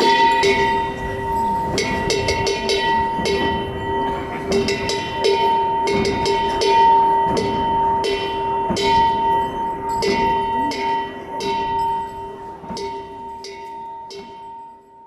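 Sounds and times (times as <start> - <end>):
drum beats: 0.0 - 13.2
cymbal clashes ringing: 0.0 - 15.0.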